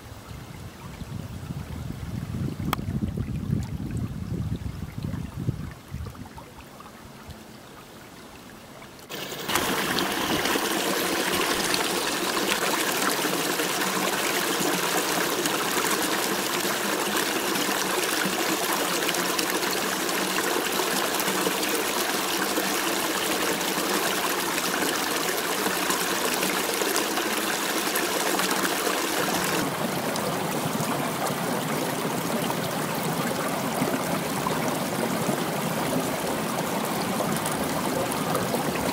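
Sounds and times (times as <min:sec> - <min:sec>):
creek flowing over rocks: 0:02.6 - 0:38.9.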